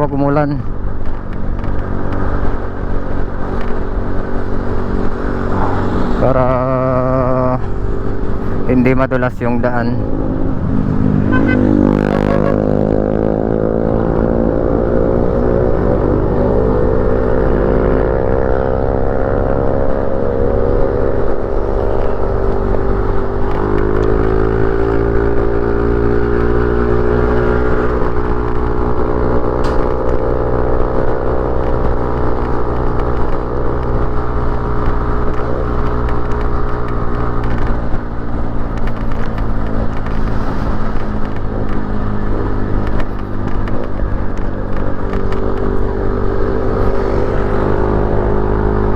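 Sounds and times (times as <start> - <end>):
motorcycle engine running: 0.0 - 48.9
steady low rumble: 0.0 - 48.9.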